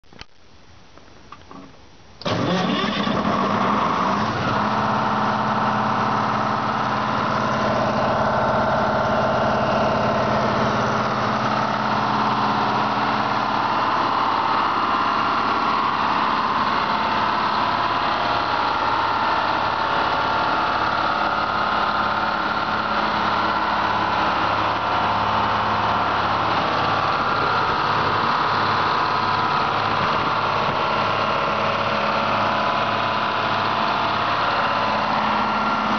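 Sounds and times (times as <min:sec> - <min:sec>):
diesel generator starting up: 0:01.3 - 0:35.9.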